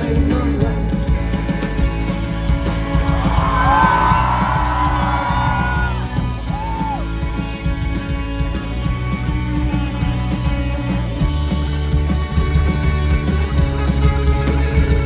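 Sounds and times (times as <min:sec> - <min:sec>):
band playing instrumental: 0:00.0 - 0:15.0.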